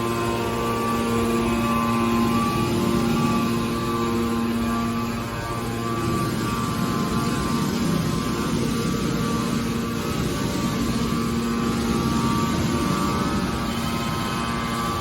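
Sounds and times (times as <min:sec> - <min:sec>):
electric motor and pump humming: 0:00.0 - 0:15.0.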